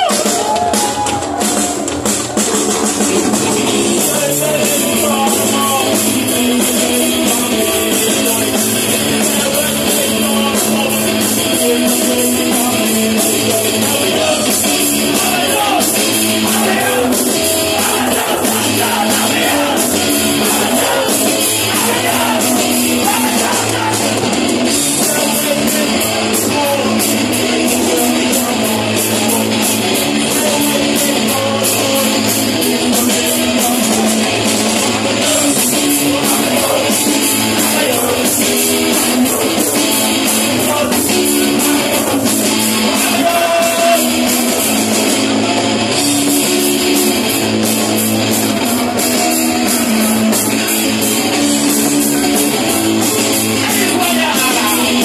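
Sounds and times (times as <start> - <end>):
live punk rock band: 0.0 - 55.0.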